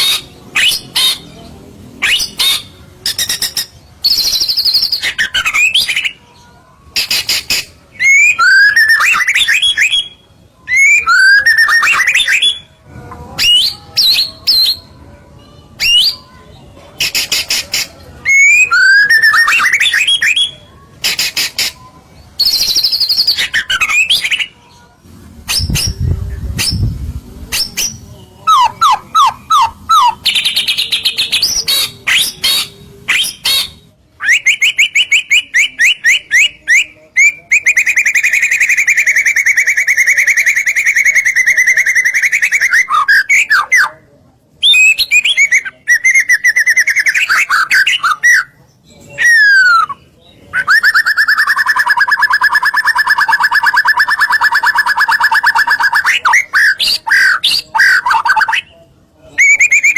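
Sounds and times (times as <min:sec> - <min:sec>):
songbird singing whistled song: 0:00.0 - 0:59.9.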